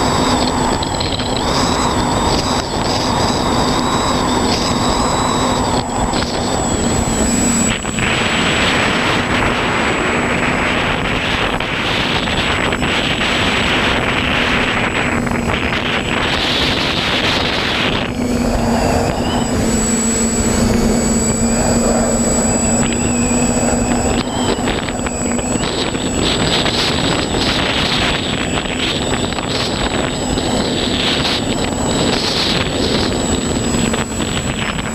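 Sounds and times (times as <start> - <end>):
drone propellers humming: 0.0 - 34.9
wind on microphone: 0.0 - 34.9.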